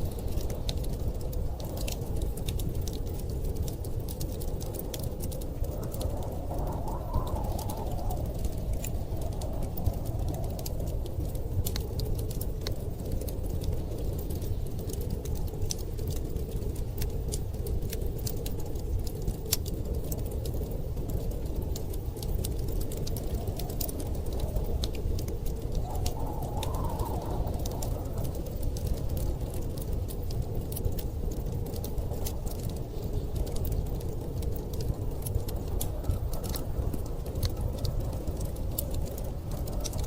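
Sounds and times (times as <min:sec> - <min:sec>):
storm wind rumble: 0:00.0 - 0:40.0
wood fire crackling and popping: 0:00.0 - 0:40.0.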